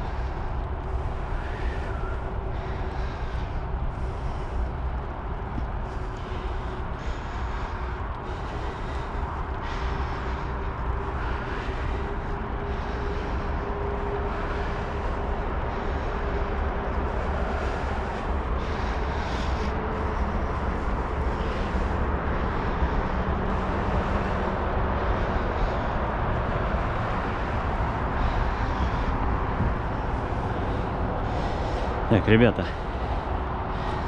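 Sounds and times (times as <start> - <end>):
bicycle tyre noise: 0.0 - 34.0
wind rumble on microphone: 0.0 - 34.0.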